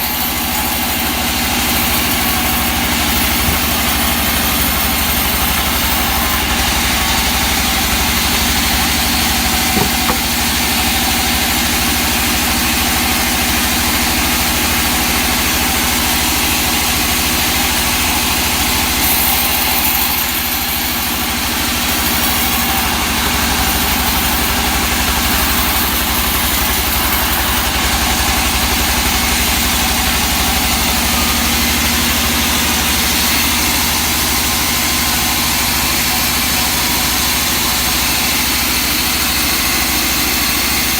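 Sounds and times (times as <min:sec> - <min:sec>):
sawmill saw humming and hissing: 0:00.0 - 0:40.9.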